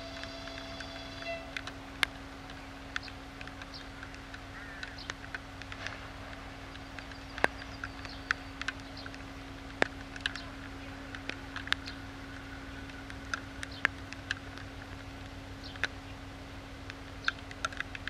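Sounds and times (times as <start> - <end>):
distant diesel locomotive engine: 0.0 - 18.0
sharp clicks and chirps: 0.0 - 18.0.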